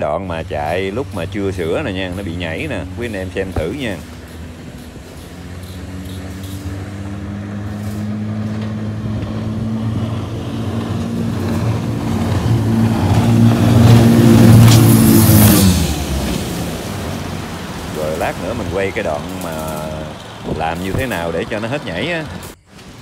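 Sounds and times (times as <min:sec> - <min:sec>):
rushing spray: 0:00.0 - 0:23.0
speedboat engine at high speed: 0:00.0 - 0:23.0.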